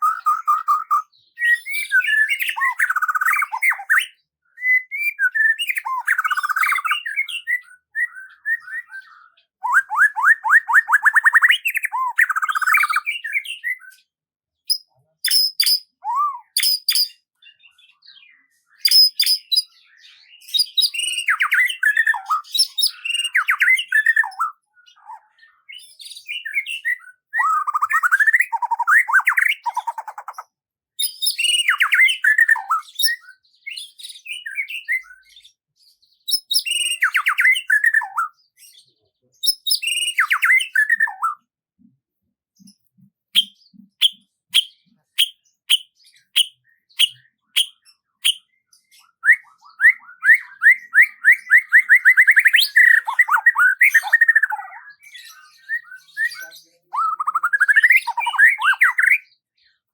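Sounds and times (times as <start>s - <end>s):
songbird singing: 0.0s - 35.6s, 36.2s - 42.0s, 42.6s - 59.9s.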